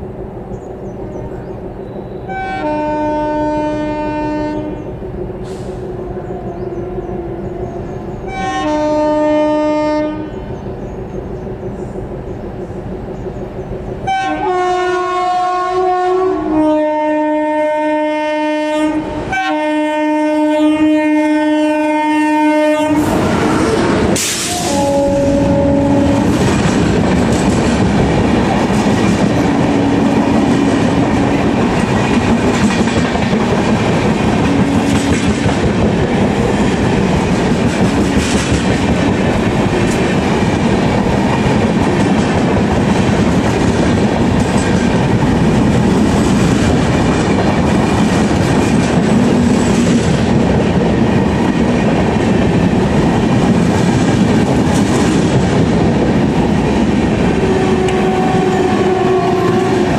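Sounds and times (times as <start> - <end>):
clickety-clack of train wheels: 0.0 - 59.9
train wheels rumbling on rails: 0.0 - 59.9.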